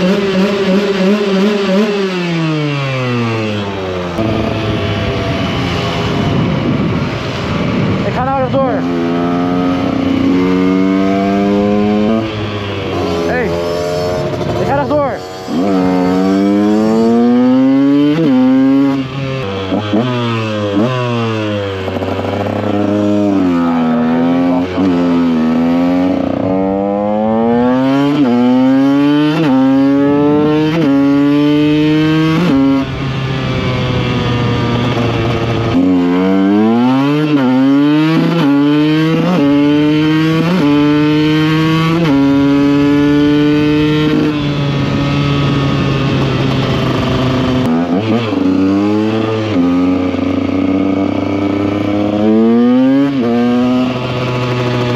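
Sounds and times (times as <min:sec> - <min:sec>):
two-stroke motorcycle engine accelerating: 0:00.0 - 0:54.9.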